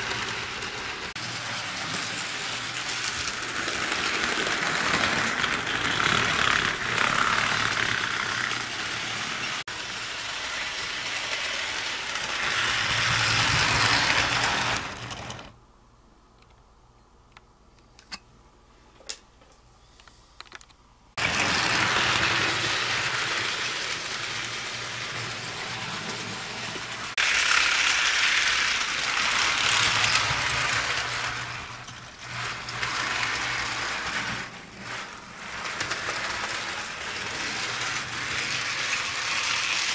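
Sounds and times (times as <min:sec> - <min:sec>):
model train running on track: 0:00.0 - 0:15.5, 0:21.2 - 0:39.9.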